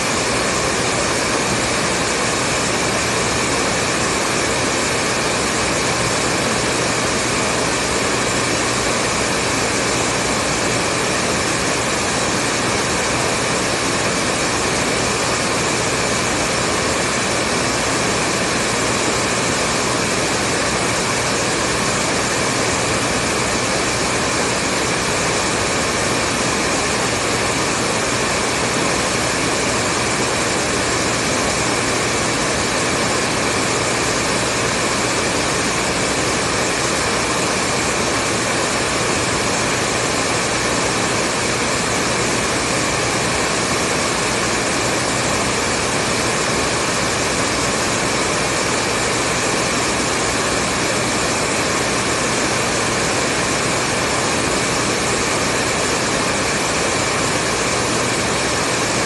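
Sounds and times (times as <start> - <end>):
hair dryer blowing air: 0.0 - 59.0.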